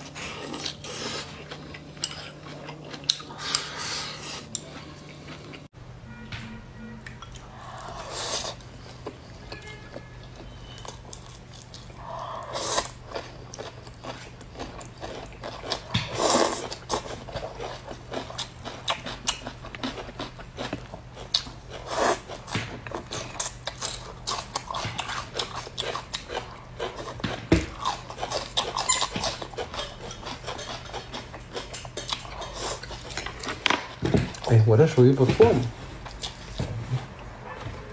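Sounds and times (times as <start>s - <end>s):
chewing and mouth noises: 0.0s - 5.7s, 7.0s - 34.5s.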